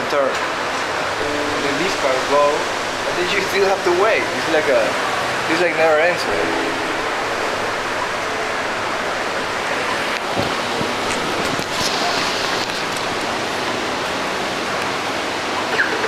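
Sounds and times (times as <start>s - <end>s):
traffic hiss: 0.0s - 16.0s.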